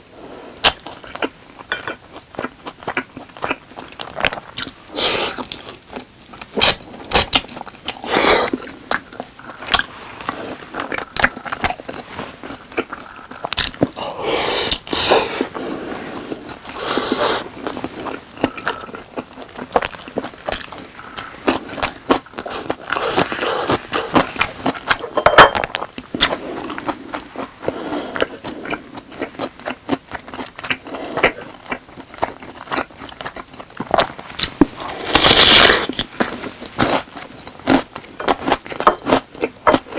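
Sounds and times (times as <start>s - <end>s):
person biting and chewing food: 1.9s - 39.9s.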